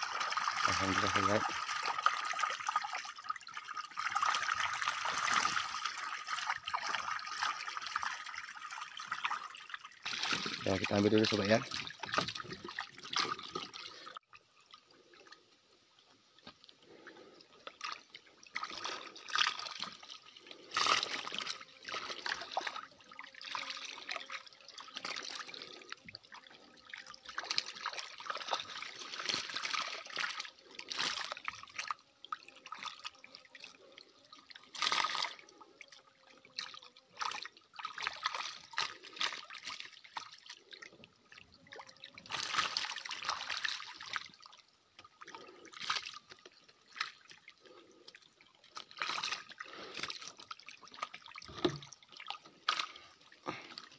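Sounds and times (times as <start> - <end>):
water splashing and trickling: 0.0 - 53.9.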